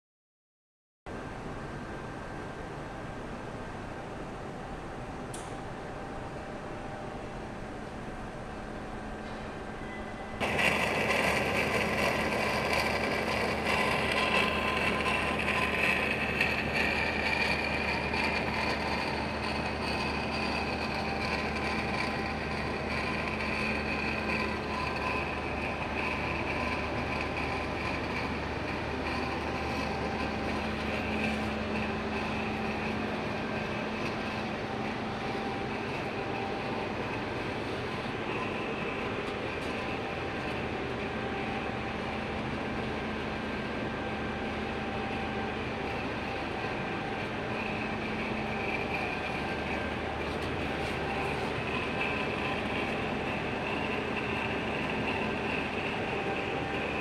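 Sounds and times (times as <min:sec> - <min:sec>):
industrial lathe running: 0:10.3 - 0:57.0.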